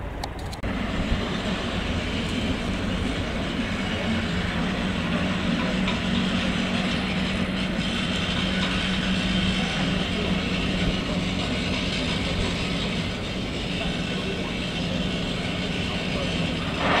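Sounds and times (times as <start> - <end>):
boat engine drone: 0.0 - 17.0
wind: 0.0 - 17.0.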